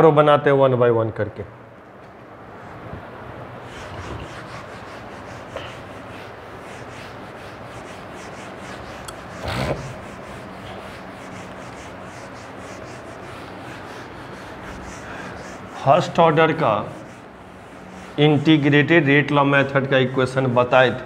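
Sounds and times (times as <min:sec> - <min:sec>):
eraser rubbing on whiteboard: 0:03.6 - 0:21.0.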